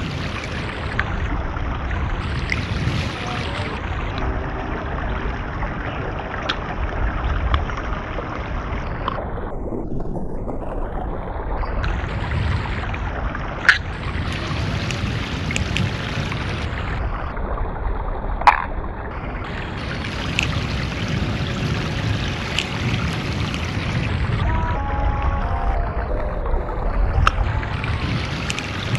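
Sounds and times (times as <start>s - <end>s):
creek running over rocks: 0.0s - 28.9s.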